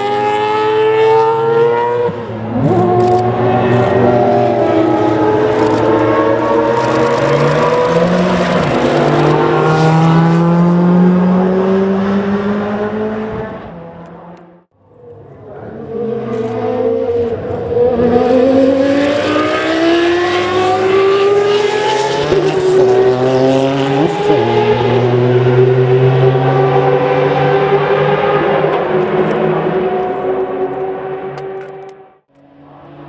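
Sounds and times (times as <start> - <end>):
race car accelerating: 0.0 - 33.0
race car engine at high revs: 0.0 - 33.0.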